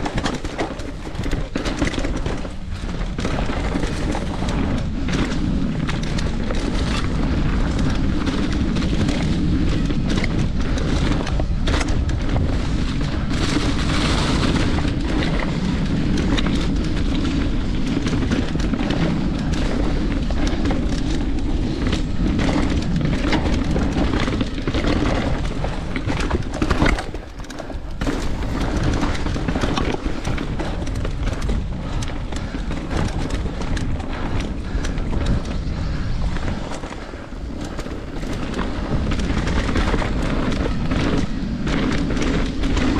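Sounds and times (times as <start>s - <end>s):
bike frame and chain rattling: 0.0s - 42.9s
tyres rolling on dirt and rock: 0.0s - 42.9s
wind buffeting microphone: 0.0s - 42.9s.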